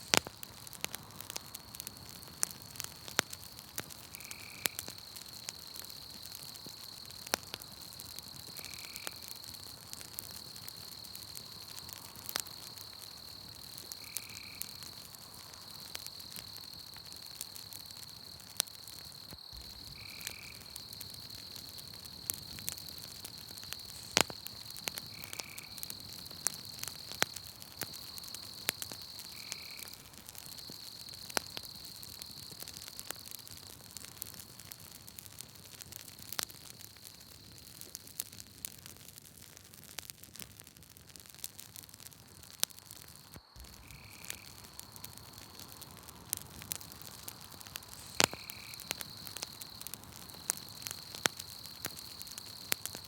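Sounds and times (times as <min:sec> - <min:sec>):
night insects droning: 0:00.0 - 0:38.7, 0:41.7 - 0:53.0
campfire crackling and popping: 0:00.0 - 0:53.0.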